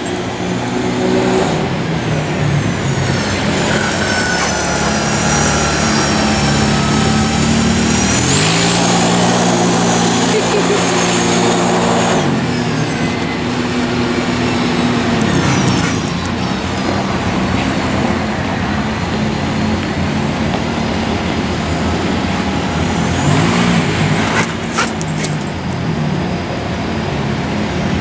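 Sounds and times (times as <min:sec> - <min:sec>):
atv engine revving: 0:00.0 - 0:28.0.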